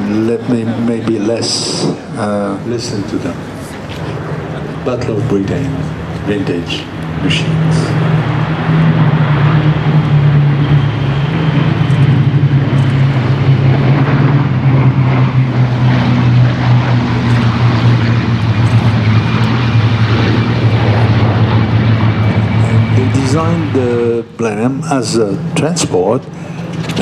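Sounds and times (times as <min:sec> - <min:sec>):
propeller planes flying past: 0:00.0 - 0:27.0.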